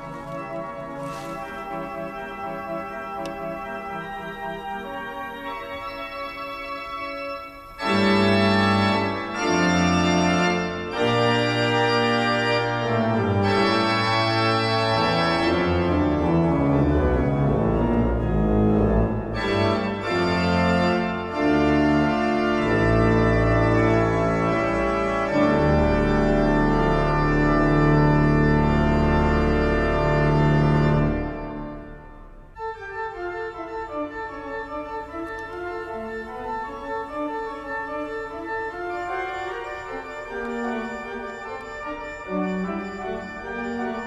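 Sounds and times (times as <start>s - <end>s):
organ playing chords: 0.0s - 44.0s.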